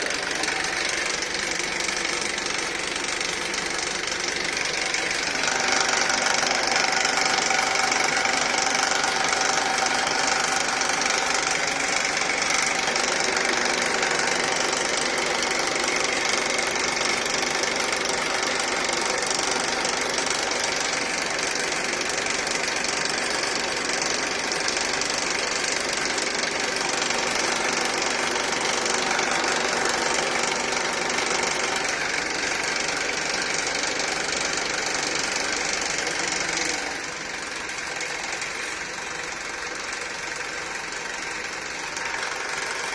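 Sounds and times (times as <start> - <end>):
car engine running with rattle: 0.0 - 42.9.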